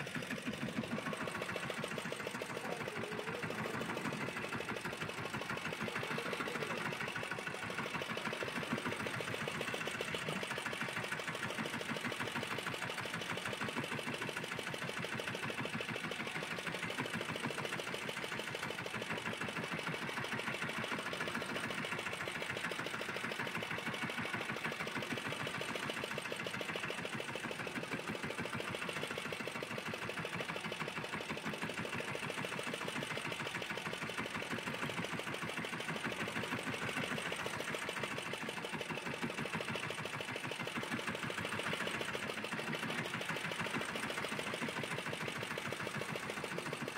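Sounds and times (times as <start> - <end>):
boat engine chugging: 0.0 - 46.9.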